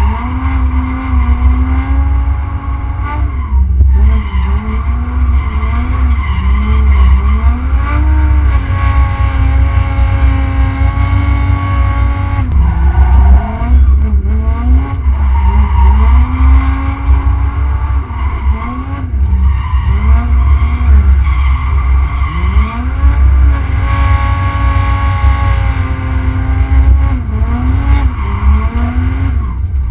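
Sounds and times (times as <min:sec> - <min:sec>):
diesel engine revving: 0:00.0 - 0:29.9.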